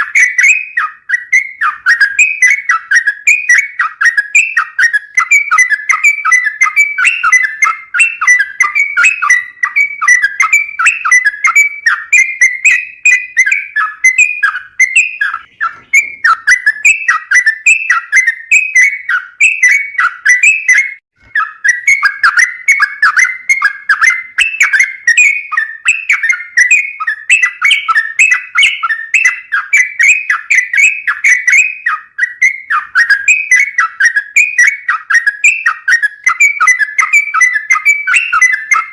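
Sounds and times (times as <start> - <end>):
bulbul singing whistled phrases: 0.0 - 38.9.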